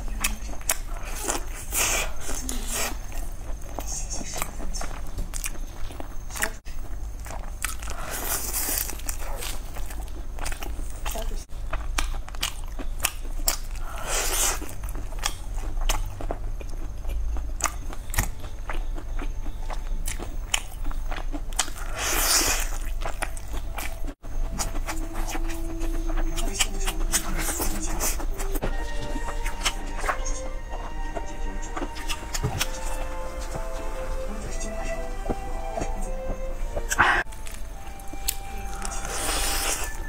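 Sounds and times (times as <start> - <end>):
chewing crispy fried chicken: 0.0 - 34.4, 36.8 - 40.0.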